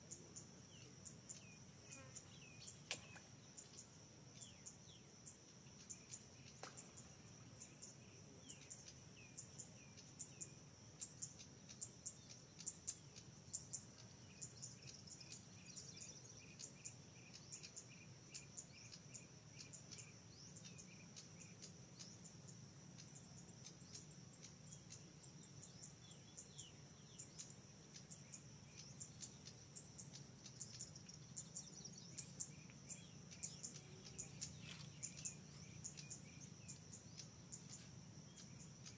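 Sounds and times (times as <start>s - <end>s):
insects trilling buzz: 0.0s - 38.9s.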